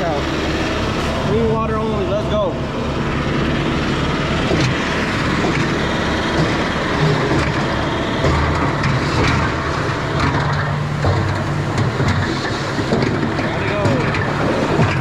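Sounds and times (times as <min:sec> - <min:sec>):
concrete pump engine humming: 0:00.0 - 0:15.0
gritty rattle and clatter: 0:00.0 - 0:15.0.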